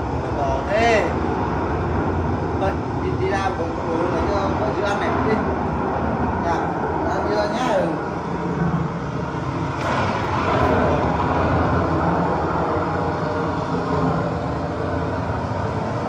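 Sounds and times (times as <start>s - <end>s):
heavy rain pouring: 0.0s - 16.0s
low rumble: 0.0s - 16.0s.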